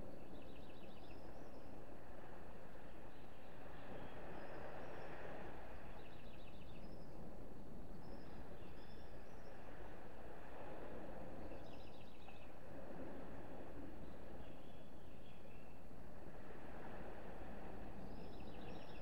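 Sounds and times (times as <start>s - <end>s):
small waves washing onto sand: 1.2s - 19.0s.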